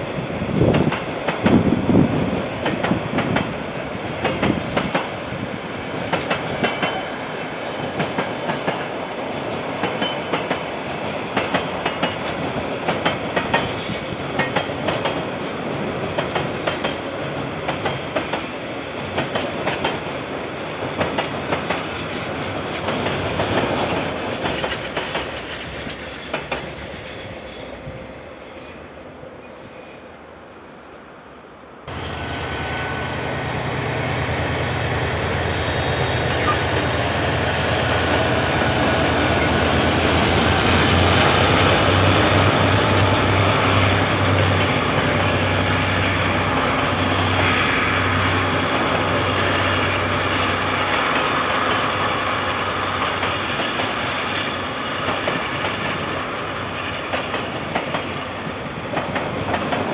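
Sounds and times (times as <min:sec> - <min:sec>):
train rumble: 0:00.0 - 0:31.0, 0:31.7 - 0:59.9
train wheels clickety-clack: 0:00.6 - 0:05.2, 0:06.0 - 0:15.4, 0:16.1 - 0:20.2, 0:20.8 - 0:27.8, 0:35.4 - 0:59.9.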